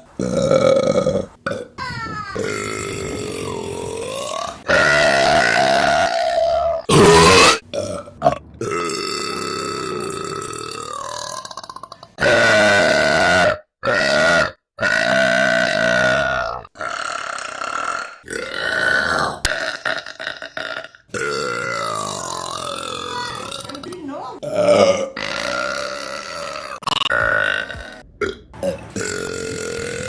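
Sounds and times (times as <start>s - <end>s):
women burping: 0.2s - 8.1s, 9.3s - 28.4s.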